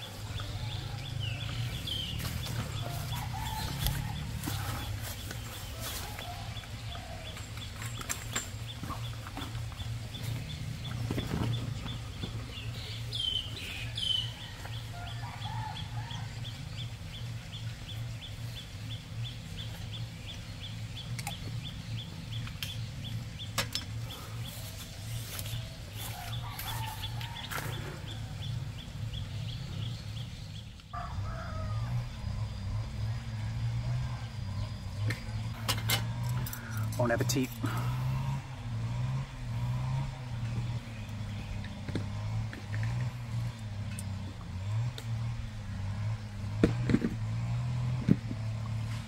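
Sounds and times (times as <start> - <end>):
birds calling: 0.0 - 49.0.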